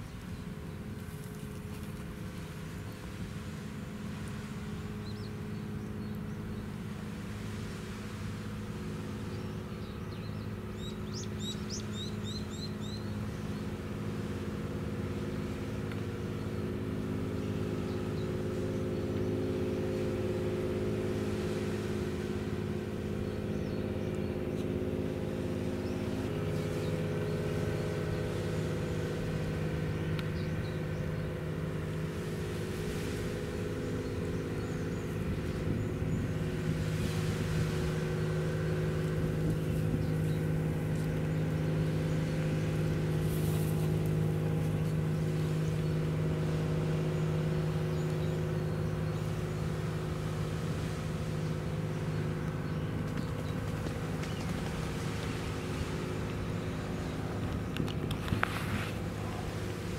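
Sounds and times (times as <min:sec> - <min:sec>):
ship engines humming: 0:00.0 - 0:59.9
small birds chirping: 0:04.3 - 0:07.0, 0:08.9 - 0:59.9.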